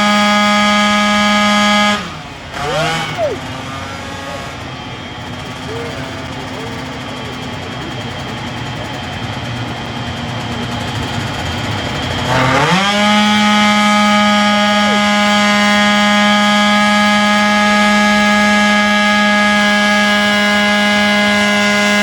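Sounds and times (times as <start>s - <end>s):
machine running: 1.9s - 22.0s.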